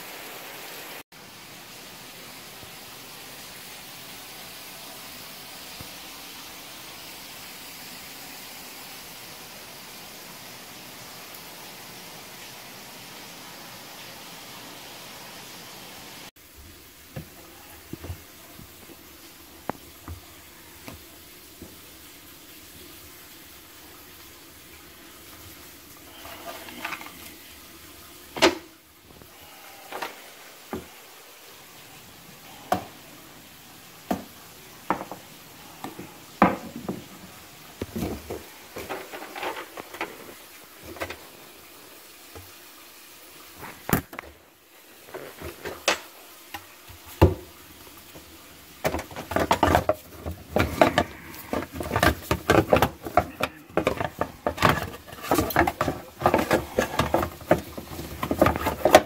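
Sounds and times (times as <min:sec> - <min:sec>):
steady low hiss: 0:00.0 - 0:59.0.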